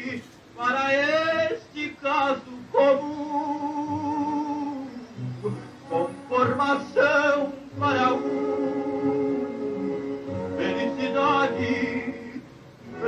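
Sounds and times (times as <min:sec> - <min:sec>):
solo singer with wide vibrato: 0:00.0 - 0:13.0.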